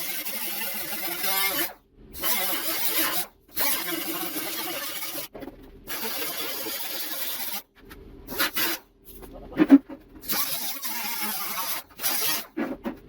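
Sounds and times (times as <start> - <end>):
tool cutting sheet metal: 0.0 - 7.7, 10.2 - 13.0.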